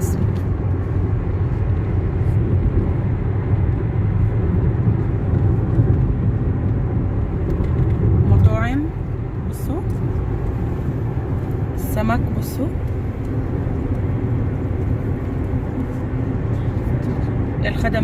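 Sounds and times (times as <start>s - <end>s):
car road noise from inside: 0.0s - 18.0s.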